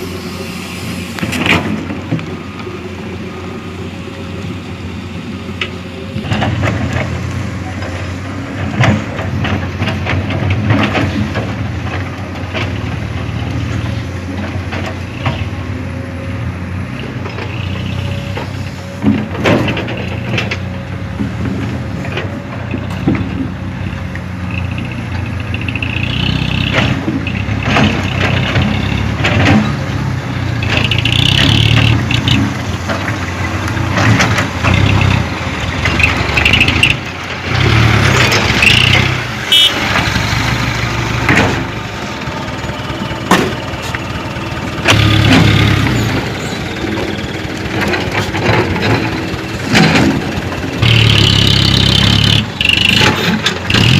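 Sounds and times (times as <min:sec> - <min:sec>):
diesel truck engine revving: 0:00.0 - 0:53.9.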